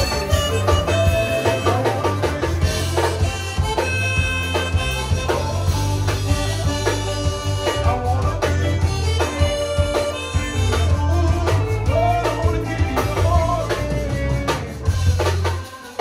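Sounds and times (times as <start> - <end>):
heavy bass line: 0.0 - 15.7
band playing: 0.0 - 16.0
drums keeping steady beat: 0.0 - 16.0.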